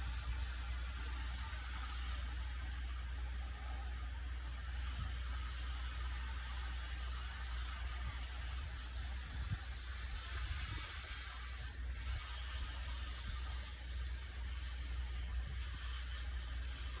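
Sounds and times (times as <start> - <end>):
hissing water spray: 0.0 - 17.0
low steady hum: 0.0 - 17.0.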